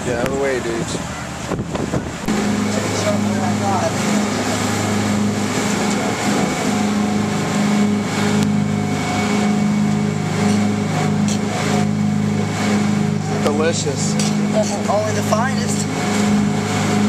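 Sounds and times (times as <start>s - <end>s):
boat engines droning: 0.0s - 17.0s
rush of wind and water: 0.0s - 17.0s.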